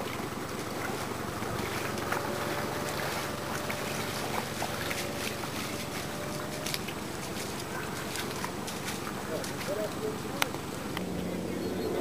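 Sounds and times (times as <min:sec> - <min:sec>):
footsteps splashing through water: 0:00.0 - 0:11.1.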